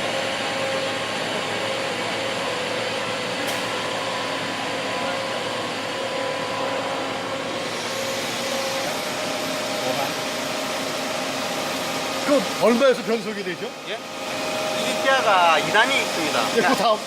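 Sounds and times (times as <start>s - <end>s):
boring machine whirring: 0.0s - 17.0s
steady hum: 0.0s - 17.0s.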